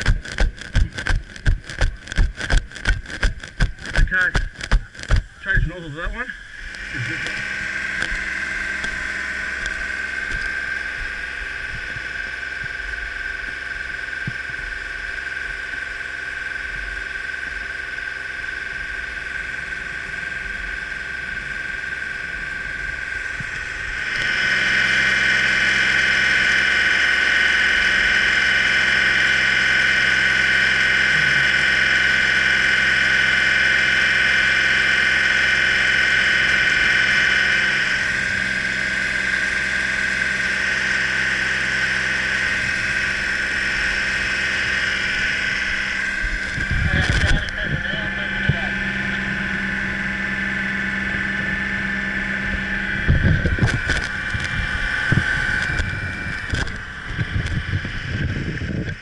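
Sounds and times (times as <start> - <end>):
truck engine whining: 0.0 - 59.0.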